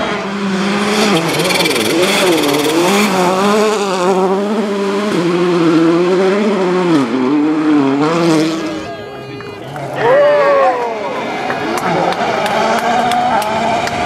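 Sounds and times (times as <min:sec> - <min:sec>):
rally car engine revving: 0:00.0 - 0:09.0, 0:10.8 - 0:14.0.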